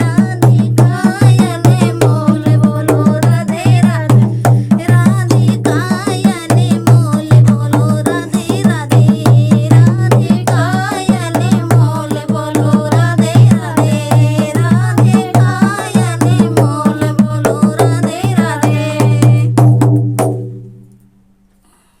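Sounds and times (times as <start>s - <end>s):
hand drum strokes: 0.0s - 21.0s.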